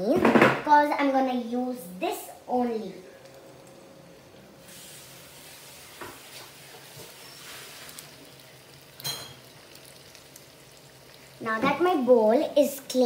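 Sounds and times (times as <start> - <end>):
faint steady hiss: 0.8 - 13.0.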